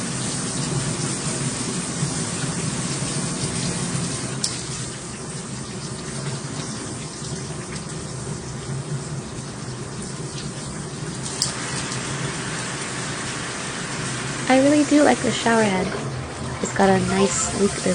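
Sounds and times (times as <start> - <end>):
shower head spraying water: 0.0 - 8.1, 10.0 - 17.9.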